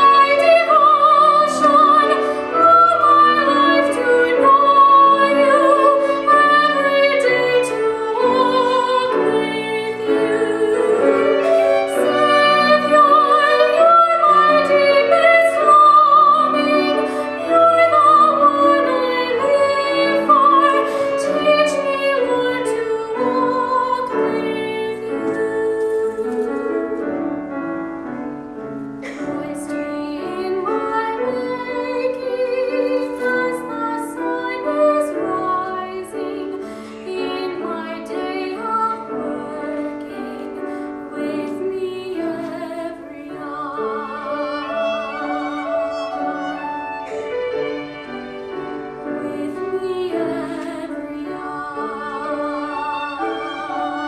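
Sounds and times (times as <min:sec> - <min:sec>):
woman singing a hymn: 0:00.0 - 0:27.1, 0:29.0 - 0:45.7, 0:49.0 - 0:54.0
instrumental accompaniment: 0:00.0 - 0:54.0.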